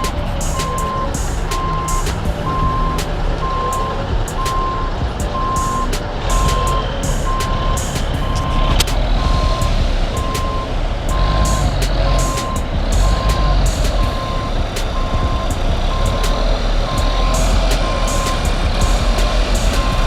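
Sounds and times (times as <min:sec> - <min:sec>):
diesel engine running: 0:00.0 - 0:20.0
reversing alarm beeping: 0:00.0 - 0:20.0.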